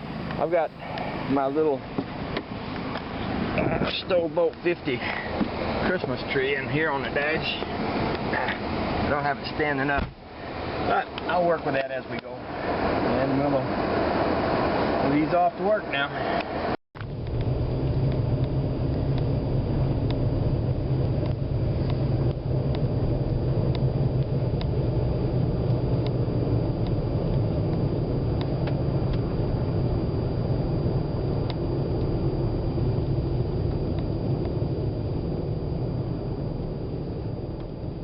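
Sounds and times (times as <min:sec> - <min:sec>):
engine and road noise in cab: 0:00.0 - 0:38.0.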